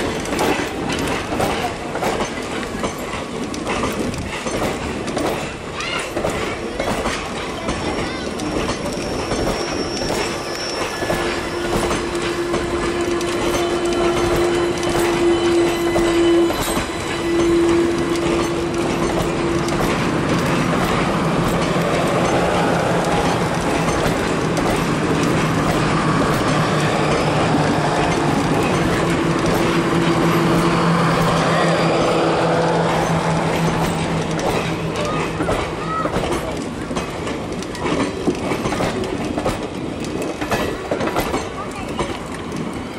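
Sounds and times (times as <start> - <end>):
train wheels clattering over rail joints: 0.0 - 42.9.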